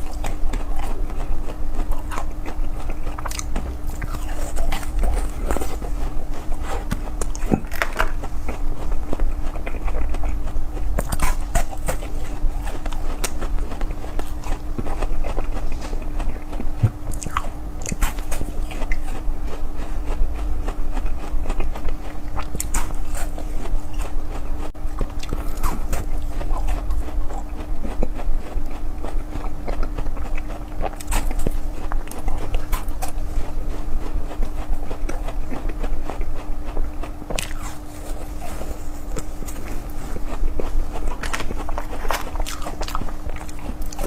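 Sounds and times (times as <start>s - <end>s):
chewing and crunching: 0.0s - 44.0s
steady low hum: 0.0s - 44.0s.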